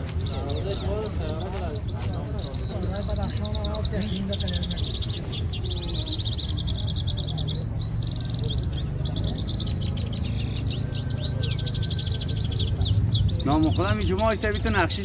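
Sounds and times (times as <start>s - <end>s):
bird twittering and trilling: 0.0s - 15.0s.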